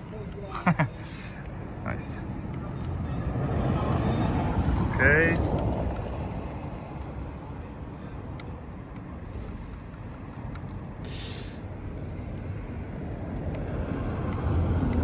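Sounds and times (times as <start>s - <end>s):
distant traffic: 0.0s - 15.0s
wind: 0.0s - 15.0s.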